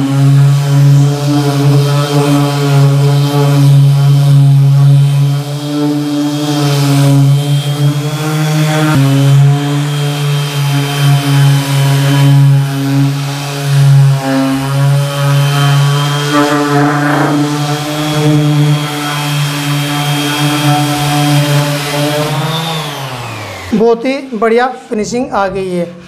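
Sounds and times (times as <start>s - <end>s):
orbit sander on wood: 0.0s - 26.0s.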